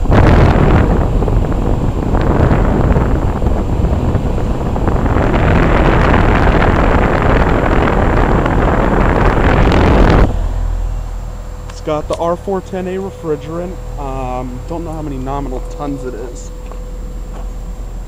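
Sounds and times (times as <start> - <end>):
fan air rushing as wind noise: 0.0 - 18.0.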